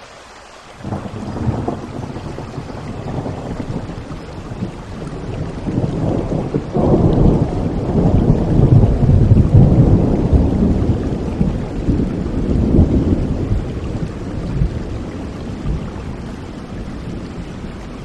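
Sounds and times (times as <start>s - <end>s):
steady rain: 0.0s - 18.0s
rolling thunder: 0.8s - 17.7s.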